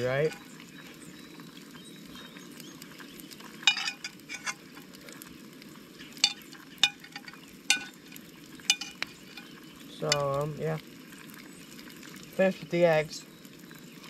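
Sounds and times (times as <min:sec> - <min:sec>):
bacon sizzling in a pan: 0:00.0 - 0:14.0.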